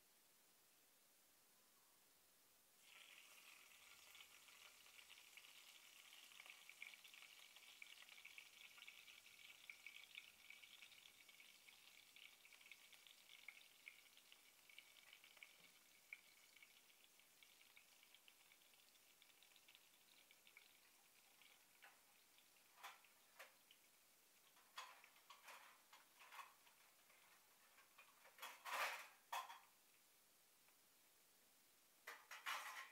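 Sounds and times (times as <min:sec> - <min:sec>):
chillies sizzling in oil: 0:02.8 - 0:29.6.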